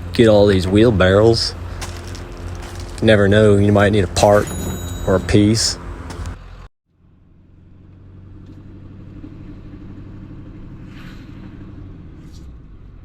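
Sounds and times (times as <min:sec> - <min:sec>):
road rumble: 0:00.0 - 0:13.0
truck engine running: 0:00.0 - 0:13.0.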